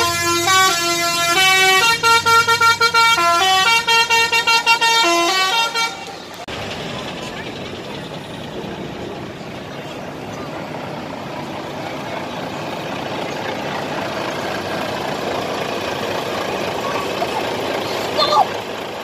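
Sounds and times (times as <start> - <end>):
truck driving past: 0.0 - 19.0.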